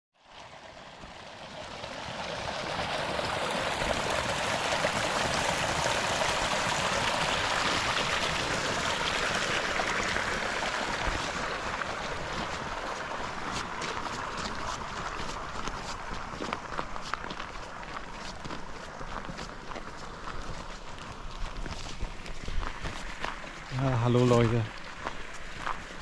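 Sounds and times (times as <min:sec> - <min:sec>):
running water rushing: 0:00.2 - 0:26.0.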